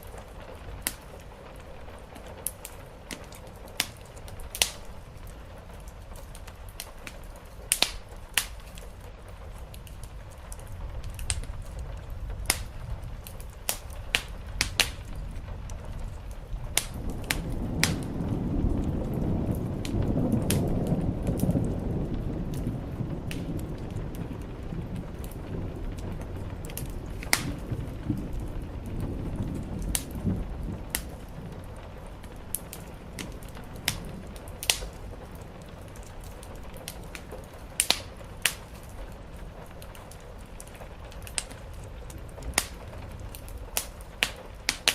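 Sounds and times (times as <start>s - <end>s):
steady rain: 0.0s - 44.9s
wood fire crackling: 0.0s - 44.9s.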